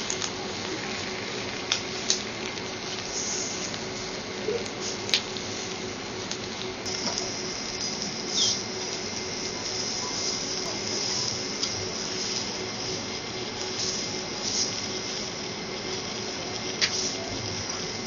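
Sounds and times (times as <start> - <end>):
vegetables sizzling on a griddle: 0.0 - 18.0.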